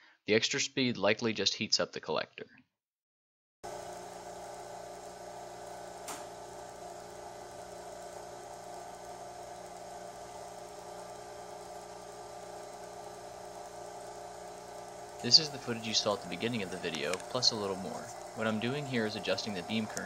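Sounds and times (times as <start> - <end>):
vacuum pump humming: 3.6 - 20.0.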